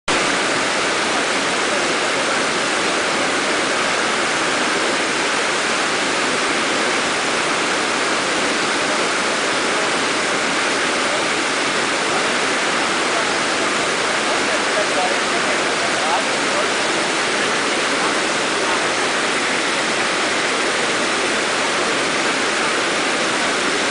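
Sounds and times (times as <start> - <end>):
waterfall rushing and splashing: 0.1 - 23.9.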